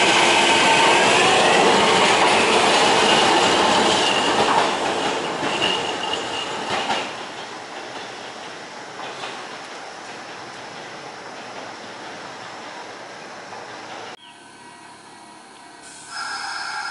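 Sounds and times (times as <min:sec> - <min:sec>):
train wheels rumbling: 0:00.0 - 0:14.2
high squeal of train: 0:00.0 - 0:16.9.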